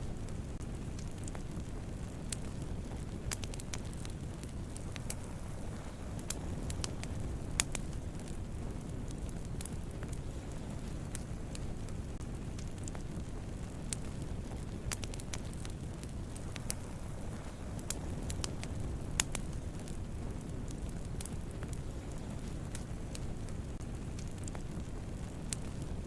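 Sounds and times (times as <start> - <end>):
campfire burning and crackling: 0.0 - 26.0.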